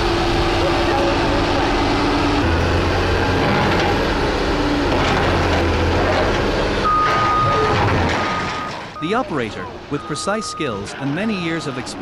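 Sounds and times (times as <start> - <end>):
excavator diesel engine drone: 0.0 - 12.0.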